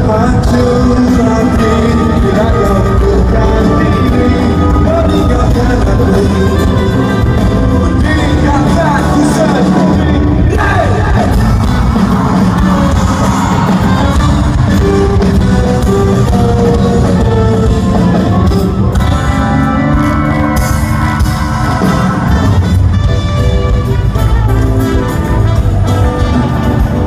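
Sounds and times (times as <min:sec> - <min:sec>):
live band playing amplified music: 0:00.0 - 0:27.0.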